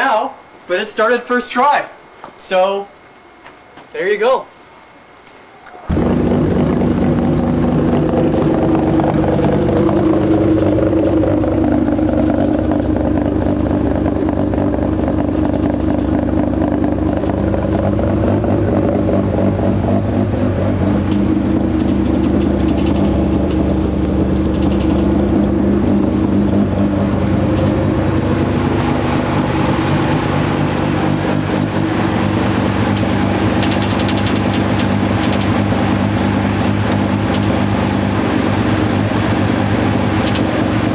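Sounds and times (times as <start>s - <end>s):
rotary engine idling: 5.9s - 40.9s.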